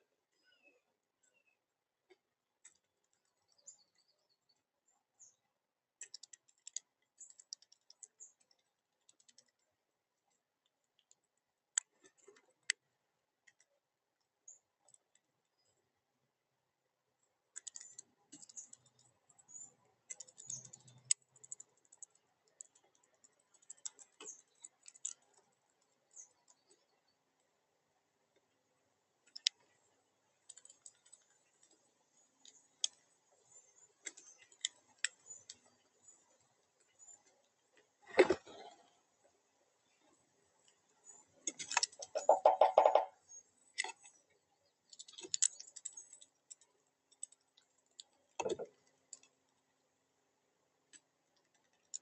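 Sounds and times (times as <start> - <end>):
birds pecking and tapping: 1.2 - 15.9, 17.2 - 49.8, 50.7 - 52.0.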